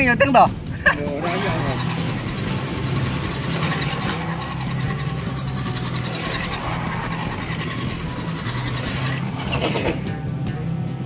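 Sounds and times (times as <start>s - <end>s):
toy car motor running: 1.1s - 10.2s.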